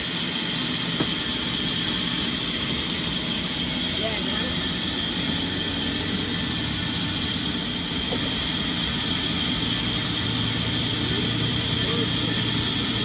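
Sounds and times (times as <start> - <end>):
high machinery whine: 0.0 - 13.0
sawmill machinery rumbling: 0.0 - 13.0.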